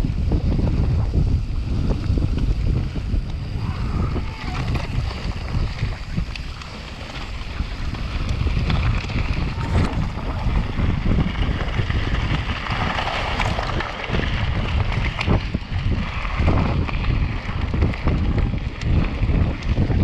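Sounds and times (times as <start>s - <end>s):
tyre noise on trail: 0.0s - 20.0s
wind buffeting microphone: 0.0s - 20.0s.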